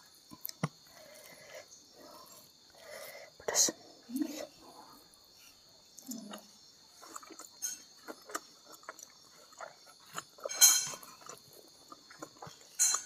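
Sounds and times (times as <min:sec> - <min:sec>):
wet chewing: 0:00.2 - 0:03.8, 0:04.4 - 0:13.0.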